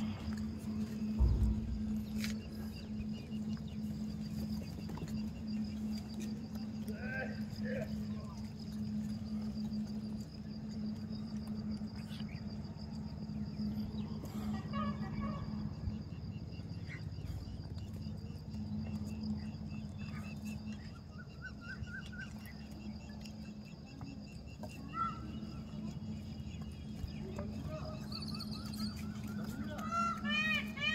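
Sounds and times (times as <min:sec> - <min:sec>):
high insect trill: 0:00.0 - 0:30.9
lower insect trill: 0:00.0 - 0:30.9
steady low hum: 0:00.0 - 0:30.9.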